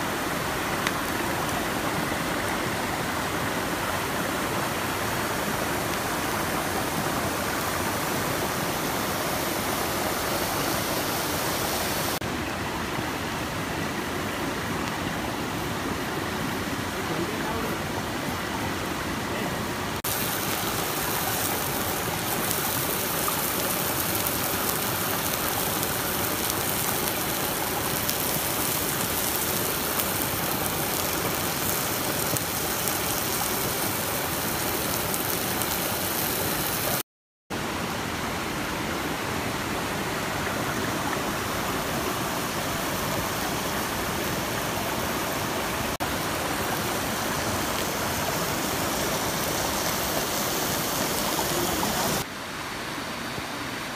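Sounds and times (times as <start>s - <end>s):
stream flowing over rocks: 0.0s - 53.9s.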